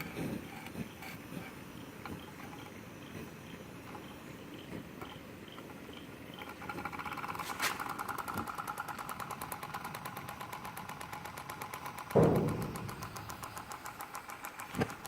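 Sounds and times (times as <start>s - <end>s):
model engine knocking and whining: 0.0s - 15.0s.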